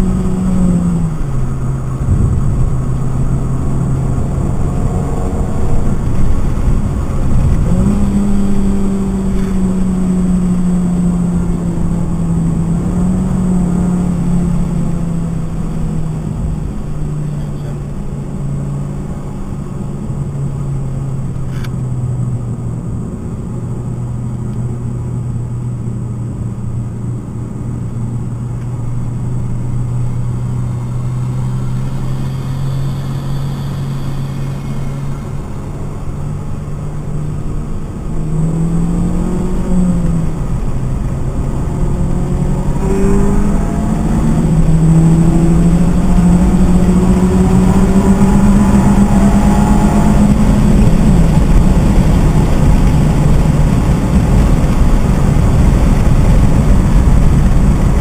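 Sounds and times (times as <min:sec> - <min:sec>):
car engine accelerating: 0:00.0 - 0:58.0
road and tyre noise: 0:00.0 - 0:58.0.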